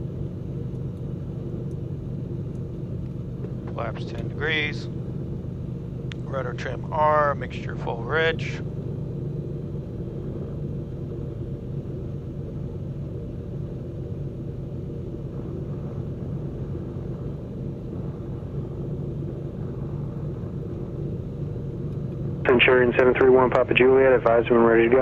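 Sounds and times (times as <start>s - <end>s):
aircraft piston engine drone: 0.0s - 25.0s.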